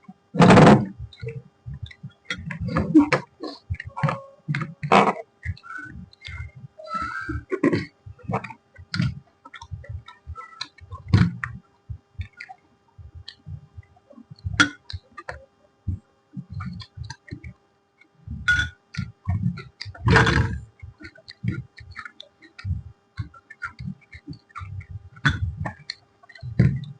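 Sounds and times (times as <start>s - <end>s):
faint electrical hum: 0.0s - 26.9s.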